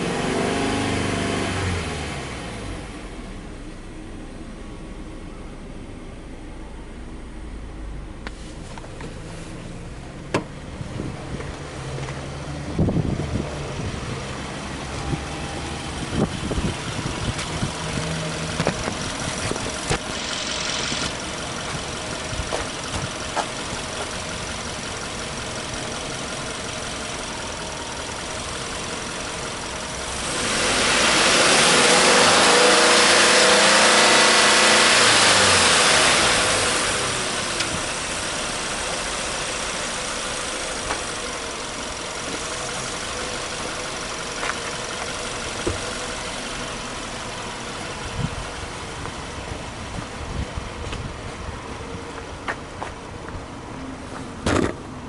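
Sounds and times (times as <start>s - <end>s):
car engine revving: 0.0s - 4.6s, 9.3s - 50.0s
car engine starting: 0.0s - 55.0s
car engine idling: 1.4s - 55.0s.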